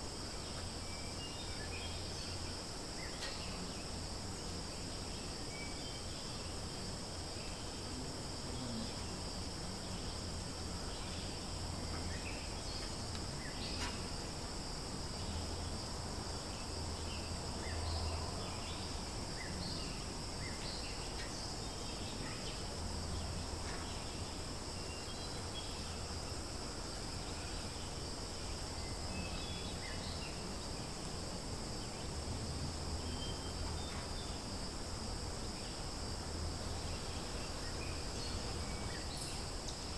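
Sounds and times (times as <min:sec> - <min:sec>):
forest insects droning: 0:00.0 - 0:39.9.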